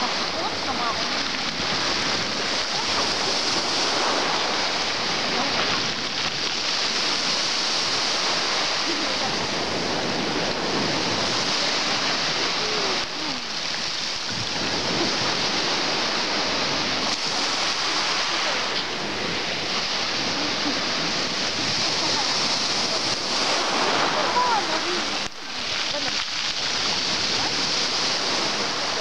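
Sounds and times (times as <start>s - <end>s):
small waves washing onto beach: 0.0s - 29.0s.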